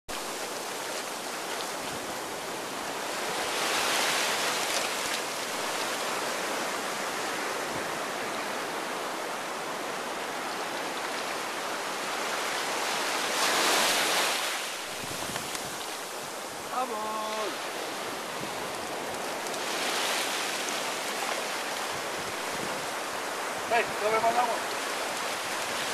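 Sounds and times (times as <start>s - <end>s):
waves washing up beach: 0.1s - 25.9s.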